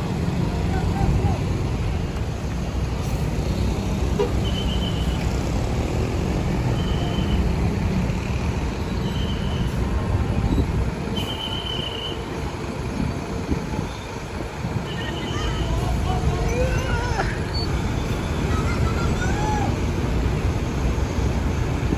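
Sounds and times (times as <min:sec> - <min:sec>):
road traffic rumble: 0:00.0 - 0:21.9.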